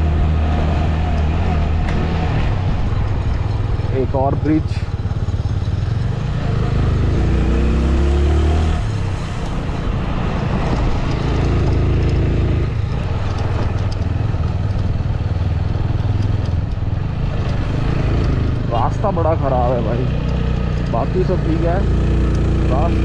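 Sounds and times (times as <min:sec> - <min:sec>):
motorcycle engine running: 0:00.0 - 0:07.8, 0:08.8 - 0:23.0.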